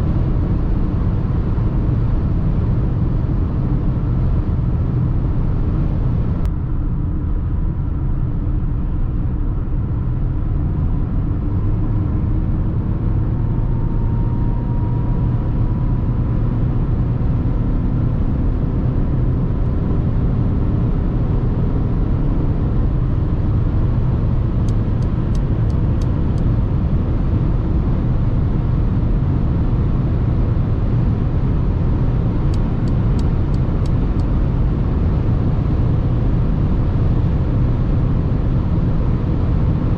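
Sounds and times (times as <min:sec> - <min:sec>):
car cabin road and engine rumble: 0:00.0 - 0:39.9.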